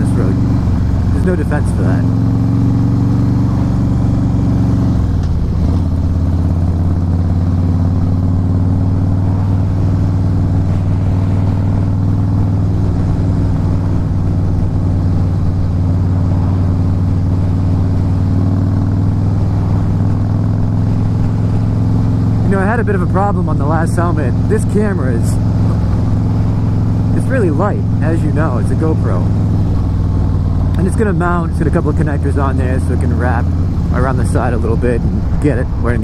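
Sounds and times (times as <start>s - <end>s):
motorcycle engine cruising: 0.0s - 36.0s.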